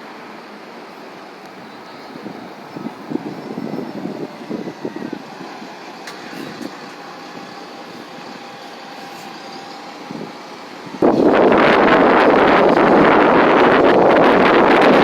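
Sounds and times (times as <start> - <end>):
bus engine whine: 0.0 - 15.0
street traffic: 0.0 - 15.0
wind buffeting microphone: 1.5 - 15.0.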